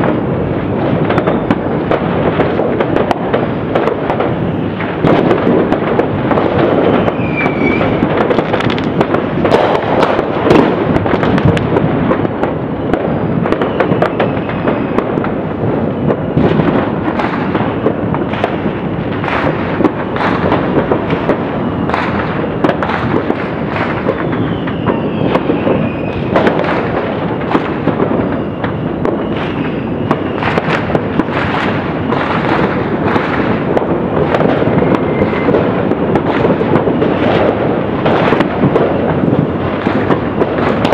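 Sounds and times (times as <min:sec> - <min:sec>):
fireworks bangs and pops: 0:00.0 - 0:40.9.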